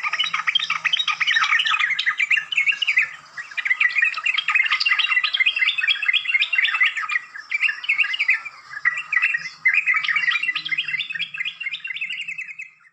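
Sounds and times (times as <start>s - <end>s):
bird twittering: 0.0s - 12.9s.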